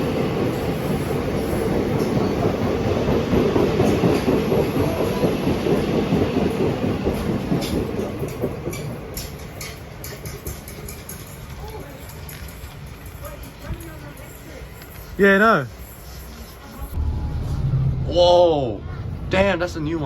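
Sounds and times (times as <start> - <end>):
passenger train passing: 0.0 - 20.0.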